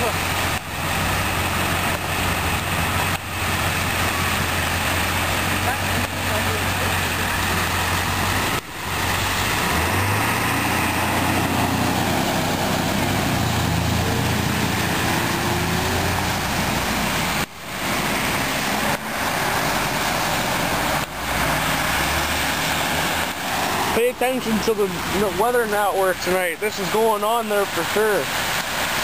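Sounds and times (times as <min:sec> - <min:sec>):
tyres swishing through water: 0:00.0 - 0:29.0
vehicle engines running: 0:00.0 - 0:29.0.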